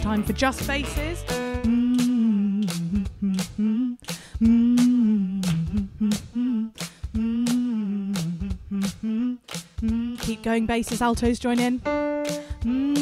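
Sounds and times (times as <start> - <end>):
person humming bass notes: 0.0 - 10.7, 12.2 - 13.0
percussive backing beat: 0.0 - 13.0.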